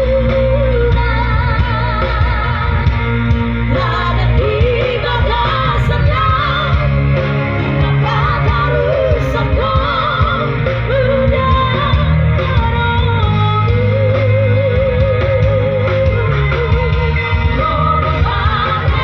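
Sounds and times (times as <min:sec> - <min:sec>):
heavy bass: 0:00.0 - 0:19.0
song with wavering vocals: 0:00.0 - 0:19.0.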